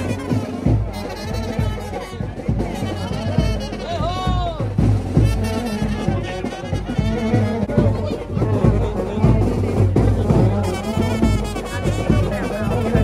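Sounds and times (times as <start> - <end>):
brass band playing: 0.0 - 13.0
crowd voices: 0.0 - 13.0
heavy repeated drum beat: 0.0 - 13.0.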